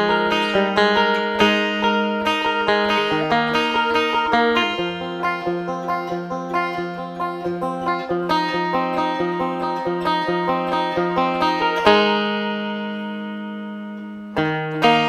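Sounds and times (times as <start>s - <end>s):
banjo fingerpicking: 0.0s - 15.0s.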